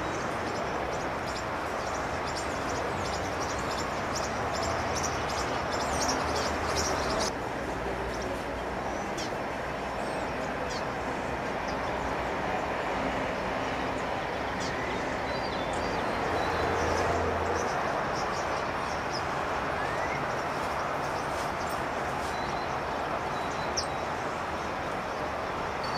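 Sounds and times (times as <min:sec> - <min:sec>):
city traffic rumble: 0:00.0 - 0:25.9.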